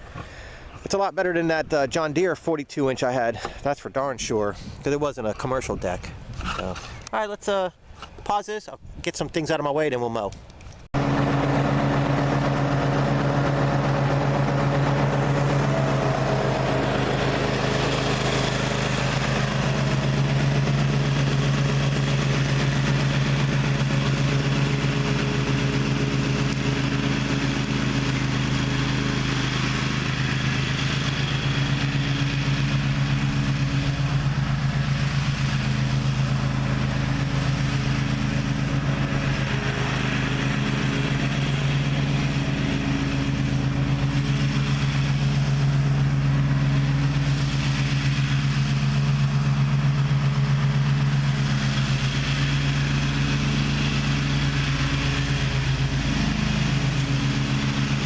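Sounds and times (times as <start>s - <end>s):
mower engine running: 10.9s - 58.0s.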